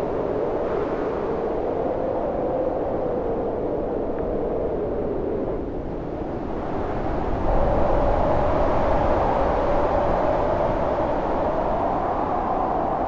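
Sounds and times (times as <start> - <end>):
storm wind howling: 0.0 - 13.0.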